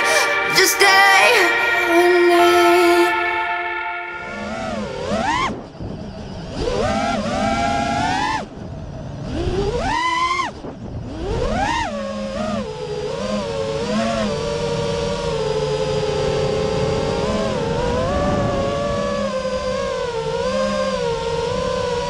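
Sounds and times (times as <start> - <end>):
quadcopter motors whining: 4.2 - 22.0.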